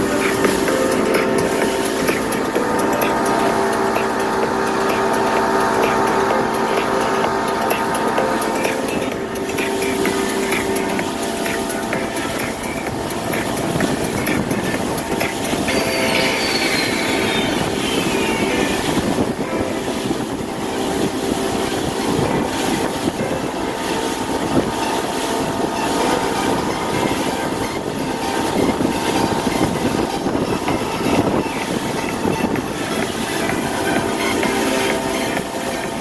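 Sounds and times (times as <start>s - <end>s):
boat engine running: 0.0s - 36.0s
constant rushing noise: 0.0s - 36.0s.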